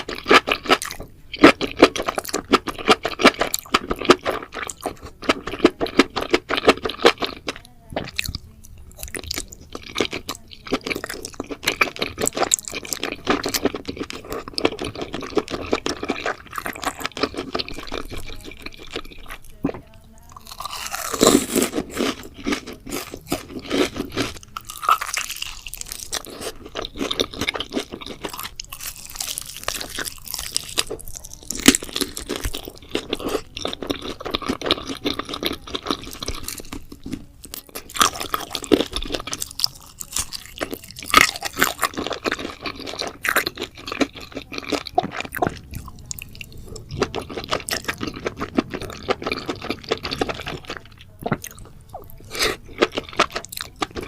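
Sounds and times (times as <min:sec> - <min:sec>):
close chewing and crunching: 0:00.0 - 0:54.0.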